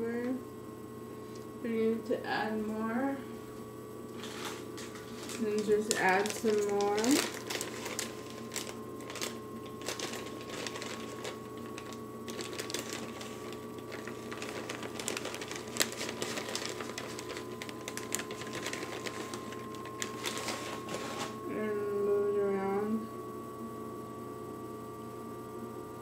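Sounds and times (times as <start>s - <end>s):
steady hum with faint tone: 0.0s - 26.0s.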